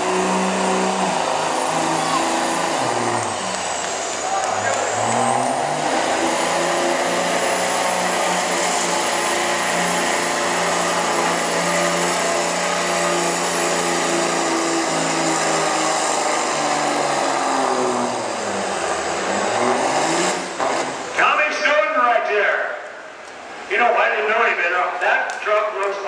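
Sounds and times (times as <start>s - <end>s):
pickup engine at high revs: 0.0s - 21.2s.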